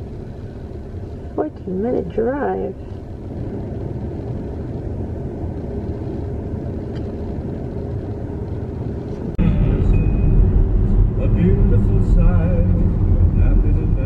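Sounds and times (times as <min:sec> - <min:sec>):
car cabin rumble: 0:00.0 - 0:14.0
faint hum: 0:00.0 - 0:14.0.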